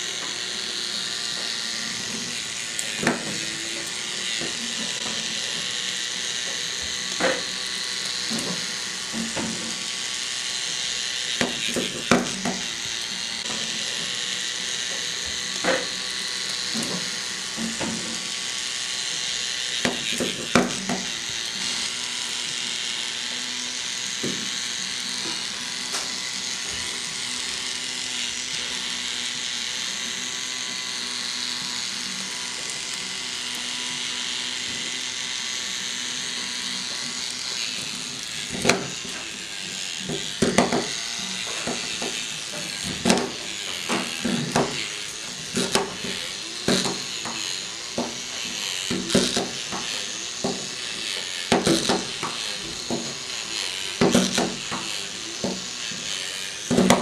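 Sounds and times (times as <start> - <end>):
small electric motor whirring: 0.0 - 57.0.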